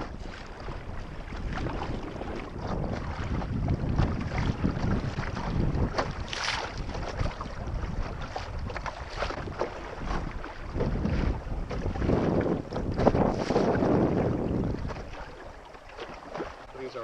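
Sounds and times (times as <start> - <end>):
water splashing along hull: 0.0 - 17.0
wind rumbling on microphone: 0.0 - 17.0.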